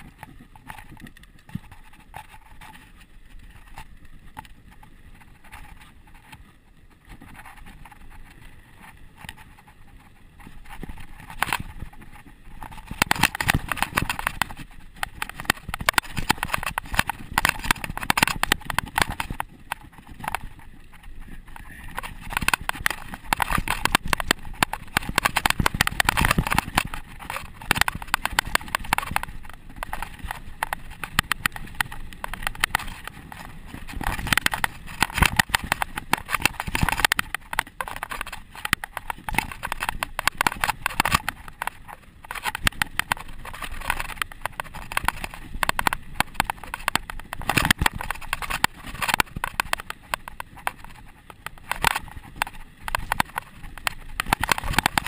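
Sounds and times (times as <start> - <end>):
mountain bike rattling over dirt: 0.0 - 55.0.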